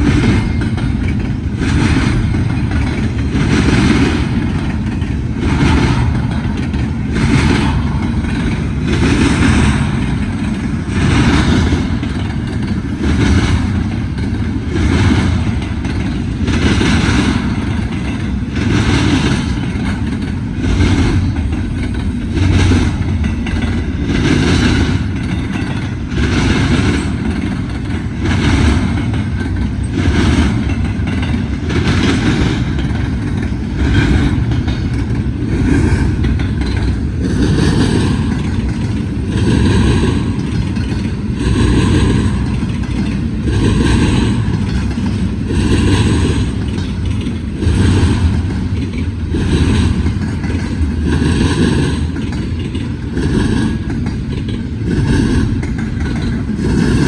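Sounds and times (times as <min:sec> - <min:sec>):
train rumbling by: 0:00.0 - 0:57.0
train wheels clattering over crossing: 0:00.0 - 0:57.0.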